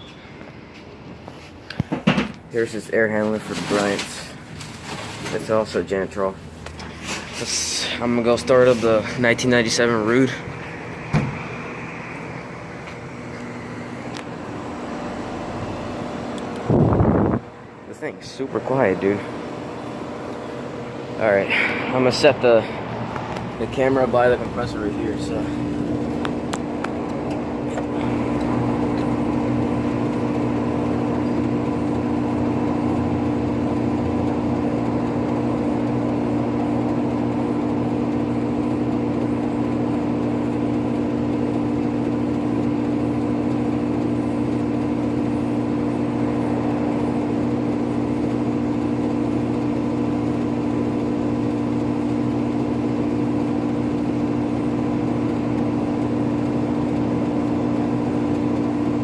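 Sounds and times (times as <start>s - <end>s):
air conditioner unit humming: 0.0s - 59.0s.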